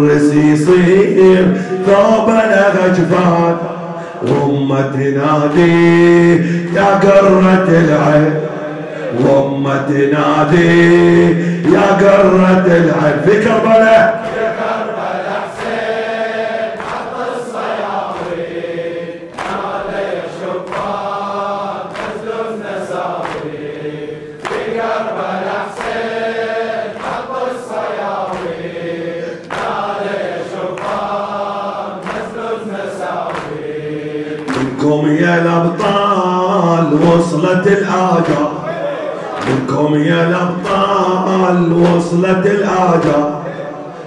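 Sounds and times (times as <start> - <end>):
congregation chanting: 0.0 - 44.0
rhythmic chest-beating thumps: 0.7 - 44.0.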